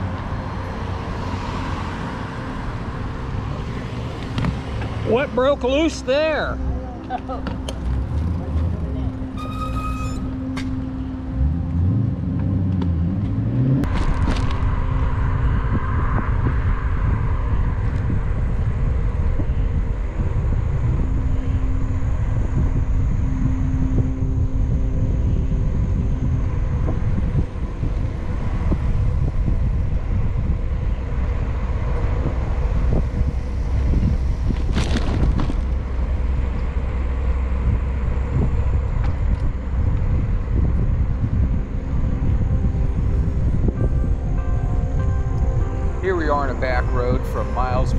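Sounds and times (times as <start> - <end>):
road traffic: 0.0 - 47.9
vehicle engine hum: 0.0 - 47.9
wind rumble on microphone: 0.0 - 47.9.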